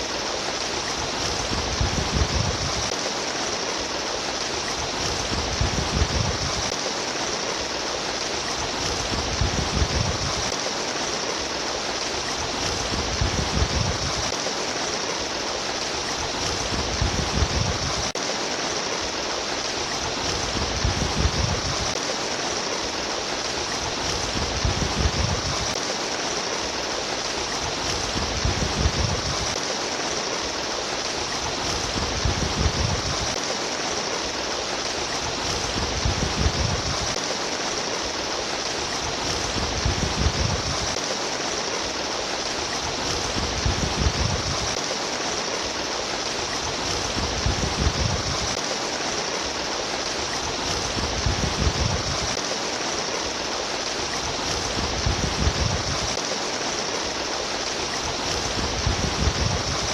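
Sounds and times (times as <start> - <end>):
stream water rushing and splashing: 0.0 - 59.9.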